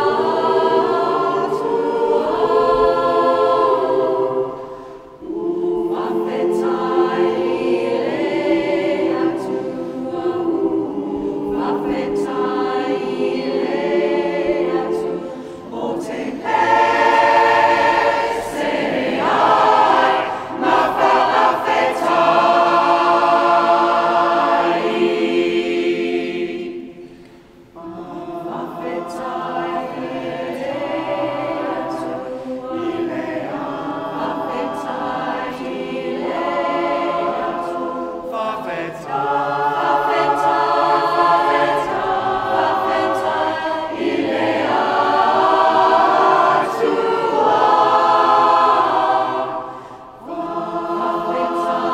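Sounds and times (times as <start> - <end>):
mixed choir singing: 0.0 - 51.9.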